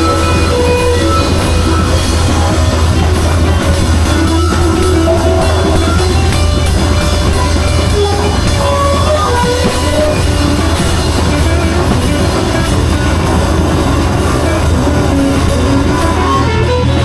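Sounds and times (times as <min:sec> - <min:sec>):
drum kit: 0:00.0 - 0:17.0
guitar: 0:00.0 - 0:17.0
heavy low bass: 0:00.0 - 0:17.0
wandering melodic line: 0:00.0 - 0:17.0.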